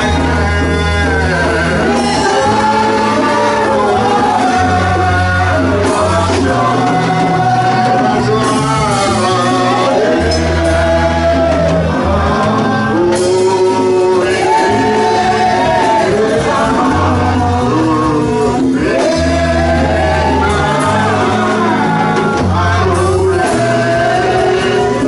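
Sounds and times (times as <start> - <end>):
bass line: 0.0 - 25.0
keyboard: 0.0 - 25.0
person singing: 0.0 - 25.0.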